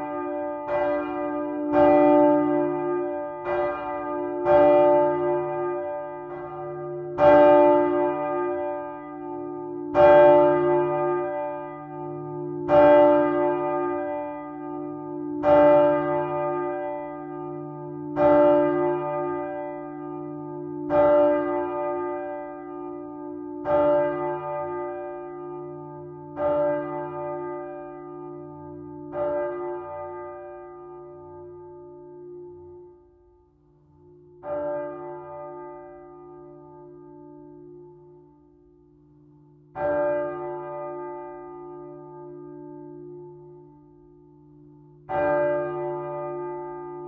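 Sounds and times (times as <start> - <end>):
church bell tolling: 0.0 - 47.0.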